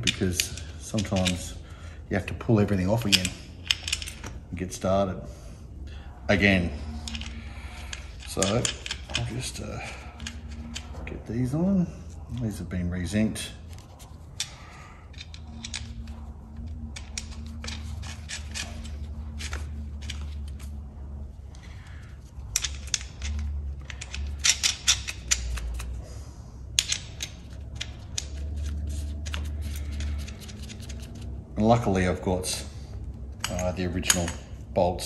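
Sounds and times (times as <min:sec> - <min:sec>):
small metal parts clinking: 0:00.0 - 0:01.8, 0:02.6 - 0:04.8, 0:06.3 - 0:25.9, 0:26.7 - 0:32.1, 0:33.2 - 0:34.6
steady low hum: 0:00.0 - 0:35.0.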